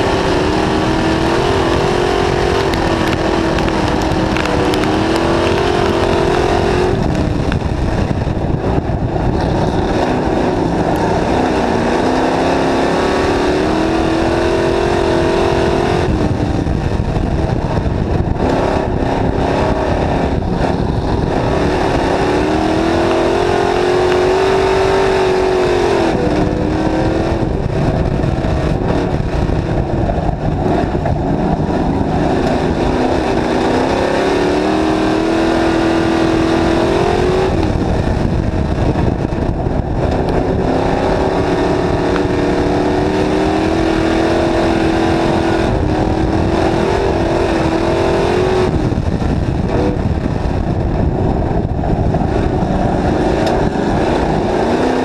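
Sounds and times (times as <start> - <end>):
race car engine revving: 0.0 - 55.0
rough roar of noise: 0.0 - 55.0.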